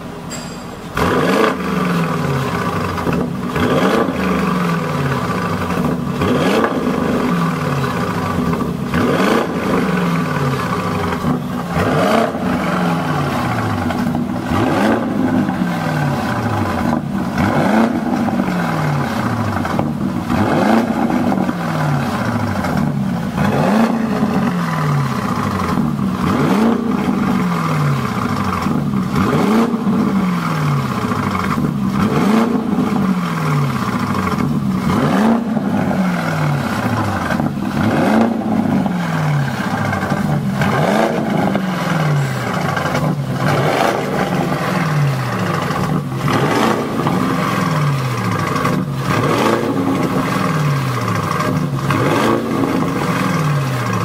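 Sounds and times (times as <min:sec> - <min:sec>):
car engine revving: 0:00.9 - 0:54.0.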